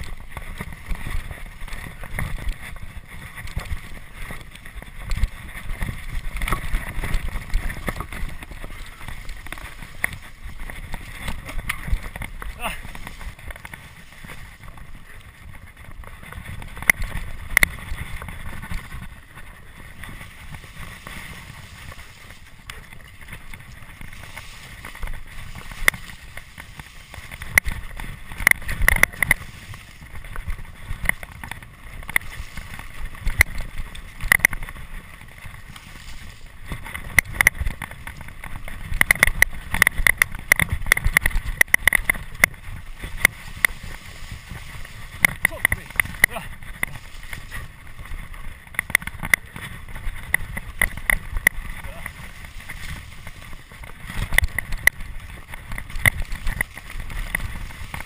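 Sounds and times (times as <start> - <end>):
bike clicking and rattling: 0.0 - 58.0
tyre noise on trail: 0.0 - 58.0
wind on microphone: 0.0 - 58.0.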